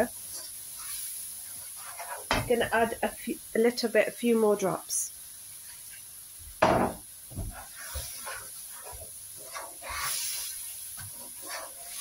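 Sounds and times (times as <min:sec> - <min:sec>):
wooden spoon stirring in pan: 0:00.0 - 0:04.3, 0:05.5 - 0:12.0
water sizzling in hot oil: 0:00.0 - 0:12.0.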